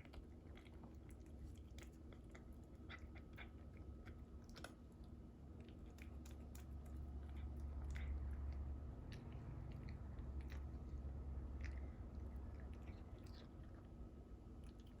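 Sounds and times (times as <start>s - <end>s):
cat chewing food: 0.0s - 15.0s
low steady hum: 0.0s - 15.0s.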